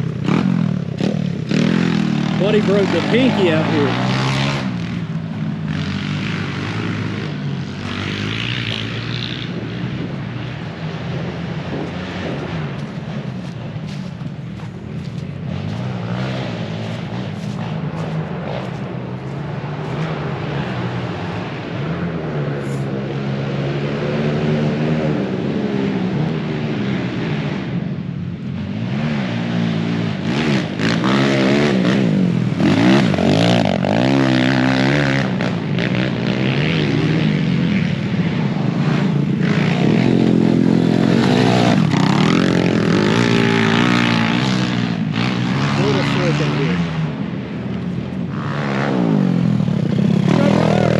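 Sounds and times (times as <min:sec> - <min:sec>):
pit bike engines revving: 0:00.0 - 0:50.9.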